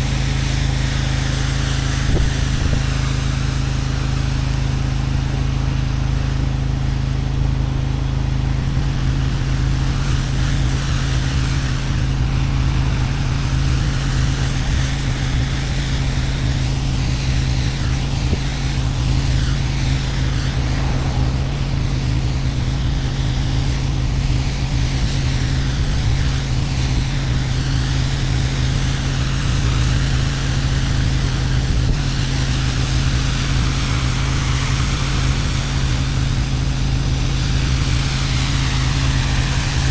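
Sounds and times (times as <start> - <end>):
high-pressure water spraying: 0.0 - 39.9
pressure washer engine running: 0.0 - 39.9.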